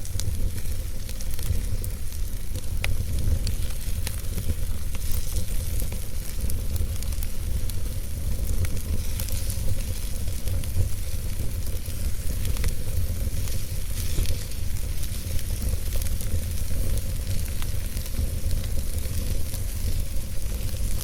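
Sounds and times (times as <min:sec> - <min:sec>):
campfire hissing and crackling: 0:00.0 - 0:21.0.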